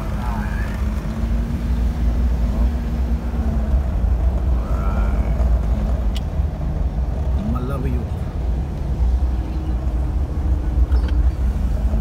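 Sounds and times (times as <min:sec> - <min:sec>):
constant hum: 0:00.0 - 0:12.0
engine and tyre rumble: 0:00.0 - 0:12.0.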